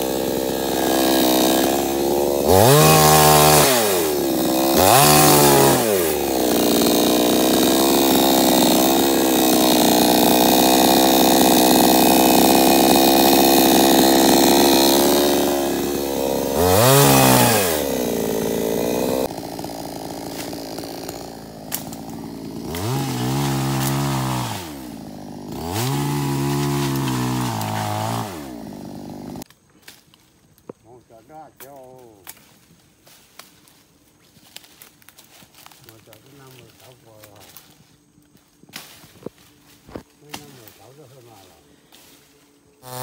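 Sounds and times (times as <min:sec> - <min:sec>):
chainsaw revving and idling: 0:00.0 - 0:29.5, 0:34.4 - 0:43.0.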